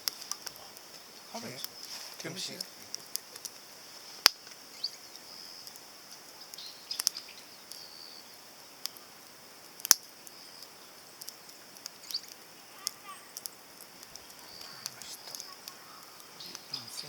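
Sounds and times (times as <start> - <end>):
steady high-pitched hiss: 0.0 - 17.0
wood fire crackling and popping: 0.0 - 17.0.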